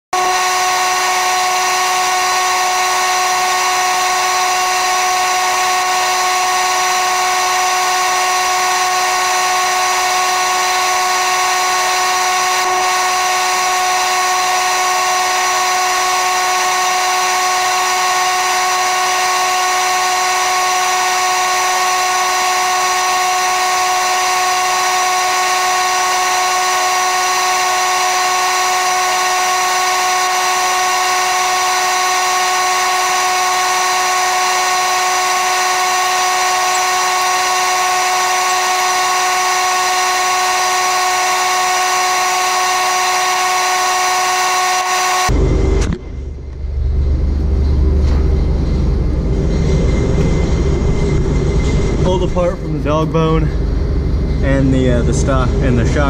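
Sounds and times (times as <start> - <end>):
motor whining steadily: 0.1 - 56.0.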